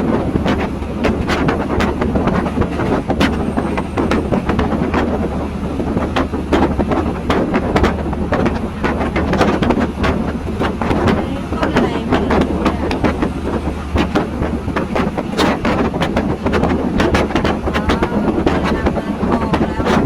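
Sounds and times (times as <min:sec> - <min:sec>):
train rumbling on track: 0:00.0 - 0:20.0
wheels clicking and knocking: 0:00.0 - 0:20.0.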